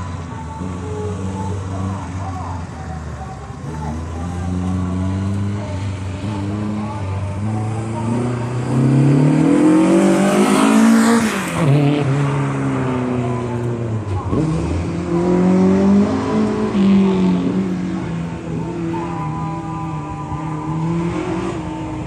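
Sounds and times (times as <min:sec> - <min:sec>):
racing truck engine revving: 0:00.0 - 0:22.0.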